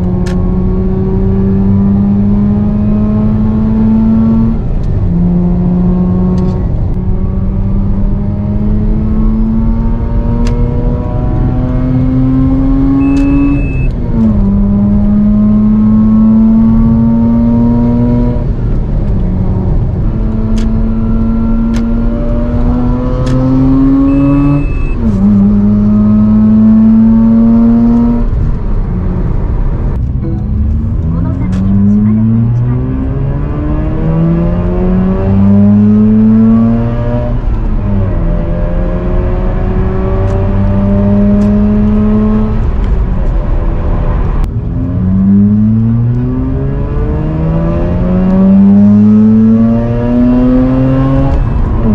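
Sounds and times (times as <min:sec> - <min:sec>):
rotary engine accelerating hard: 0:00.0 - 0:51.9.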